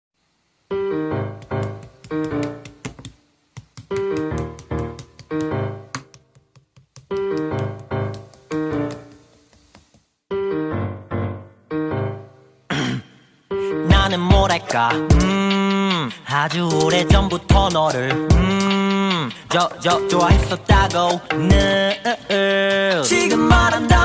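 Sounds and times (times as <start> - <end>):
piano playing pop ballad: 0.8 - 2.8, 3.9 - 6.1, 7.1 - 9.2, 10.3 - 12.9, 13.5 - 24.0.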